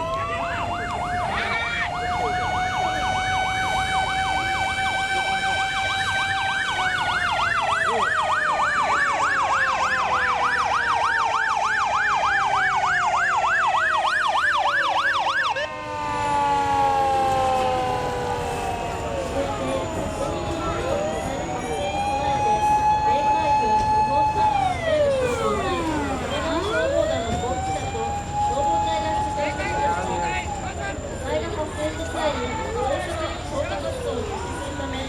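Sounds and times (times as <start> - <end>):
wailing siren: 0.0 - 35.0
yelp siren warbling: 0.0 - 35.0.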